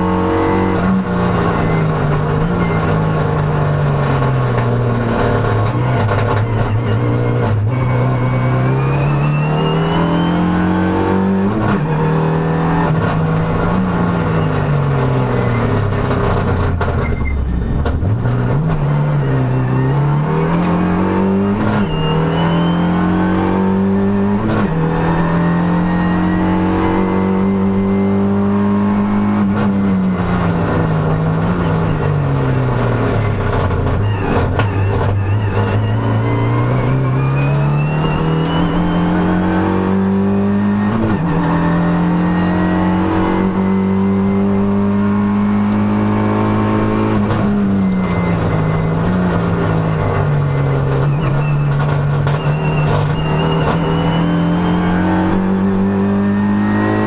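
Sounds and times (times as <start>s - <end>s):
race car engine revving through gears: 0.0s - 57.0s.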